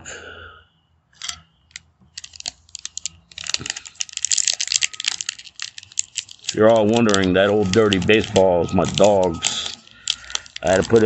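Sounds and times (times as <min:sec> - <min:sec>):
plastic wrapper crinkling and tearing: 0:01.7 - 0:11.0.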